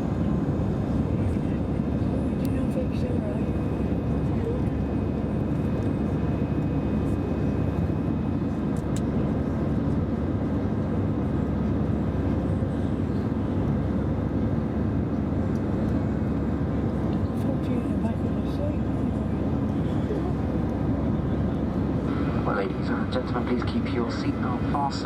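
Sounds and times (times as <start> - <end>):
jet engine roar in cabin: 0.0 - 25.0.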